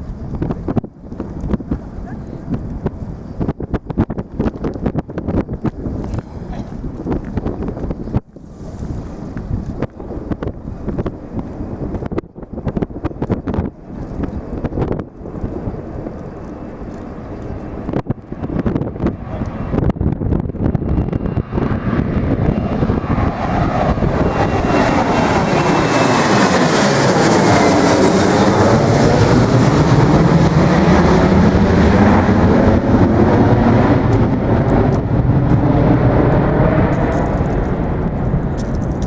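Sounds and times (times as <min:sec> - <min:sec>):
jet engines roaring overhead: 0:00.0 - 0:39.0.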